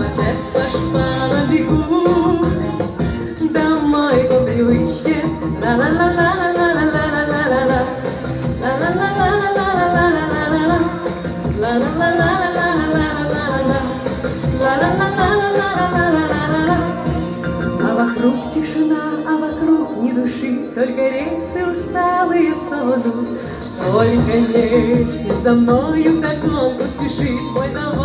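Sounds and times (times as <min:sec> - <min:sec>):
pop backing track: 0:00.0 - 0:28.0
woman singing into microphone: 0:00.0 - 0:28.0.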